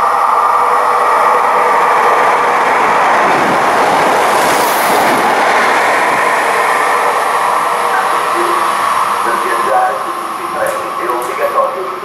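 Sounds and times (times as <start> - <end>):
train passing on rails: 0.0 - 12.0.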